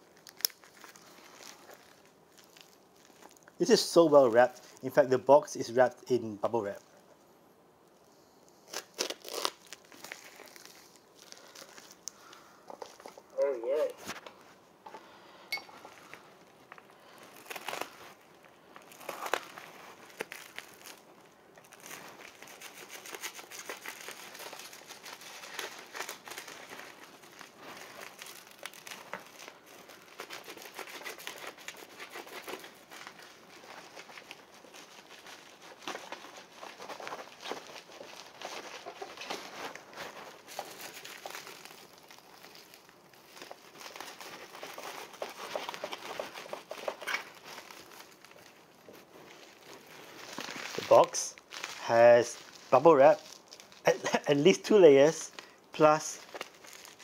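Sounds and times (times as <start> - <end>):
bubble wrap crinkling: 0.0 - 57.0.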